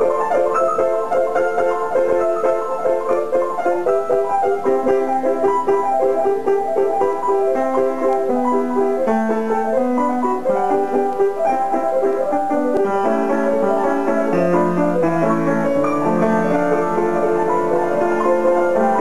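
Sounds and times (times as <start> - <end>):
solo piano tune: 0.0 - 19.0.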